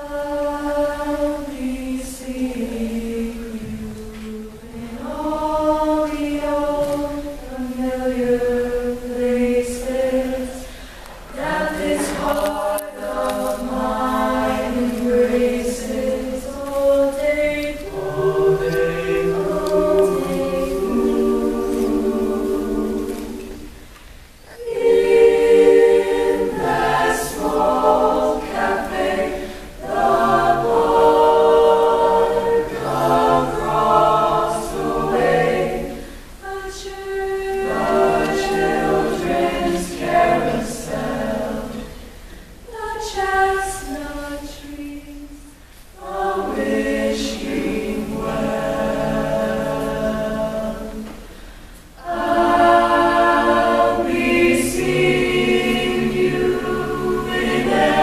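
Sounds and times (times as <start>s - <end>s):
mixed choir singing a cappella: 0.0s - 58.0s.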